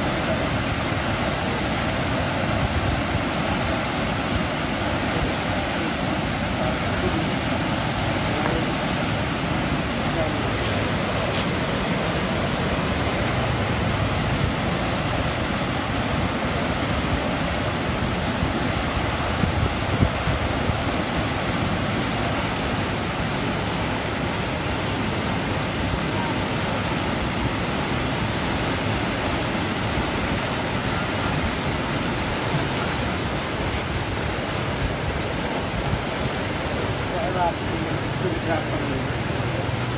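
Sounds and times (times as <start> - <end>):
water rushing over a weir: 0.0 - 39.9.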